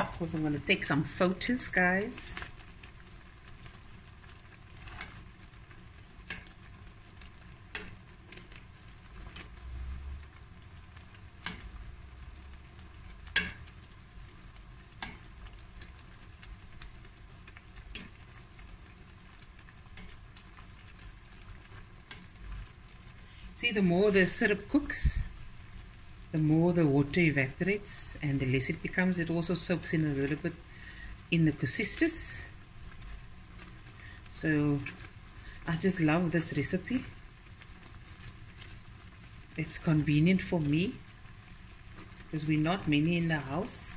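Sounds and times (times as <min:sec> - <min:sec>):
syrup bubbling: 0:00.0 - 0:43.9.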